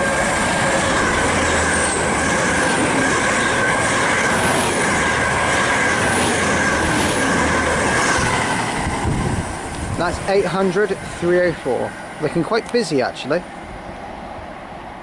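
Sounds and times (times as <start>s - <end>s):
train high whine: 0.0s - 15.0s
train wheels rushing on rail: 0.0s - 15.0s.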